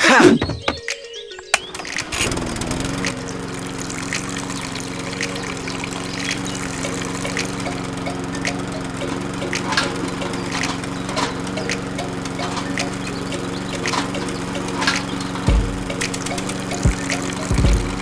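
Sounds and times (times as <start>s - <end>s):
liquid trickling: 0.7s - 18.0s
small electric motor humming: 1.4s - 18.0s.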